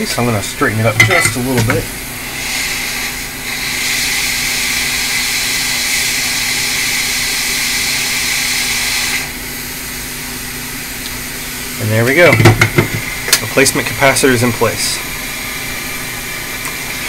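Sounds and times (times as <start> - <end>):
hot air rework station hissing: 0.0 - 17.0.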